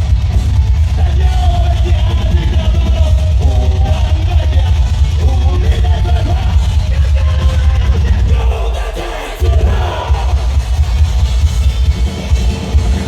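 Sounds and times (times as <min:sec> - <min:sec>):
crowd noise: 0:00.0 - 0:13.0
live rock music: 0:00.0 - 0:13.0
sung and yelled vocals: 0:00.0 - 0:13.0.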